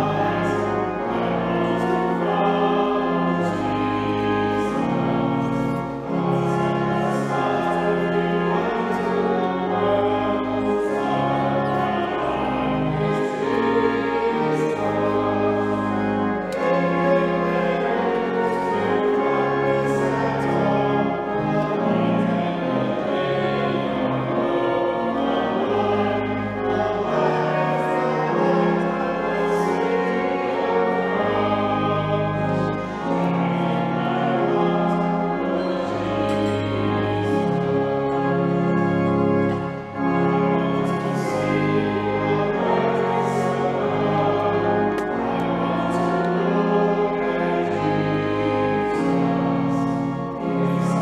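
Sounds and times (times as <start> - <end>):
choir singing sustained chords: 0.0 - 51.0.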